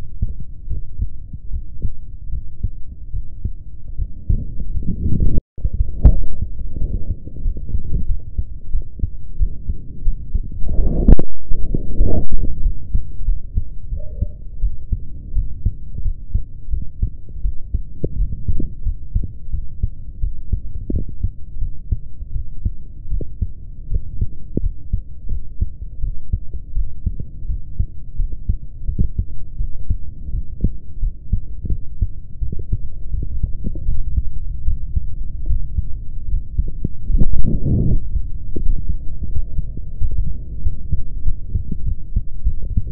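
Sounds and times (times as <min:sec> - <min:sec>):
heartbeat thumping: 0:00.0 - 0:42.9
low hum: 0:00.0 - 0:42.9.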